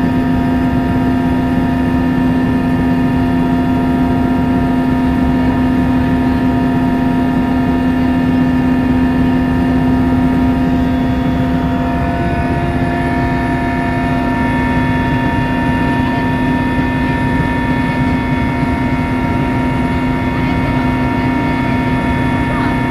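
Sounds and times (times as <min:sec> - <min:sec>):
helicopter engine and rotor drone: 0:00.0 - 0:22.9.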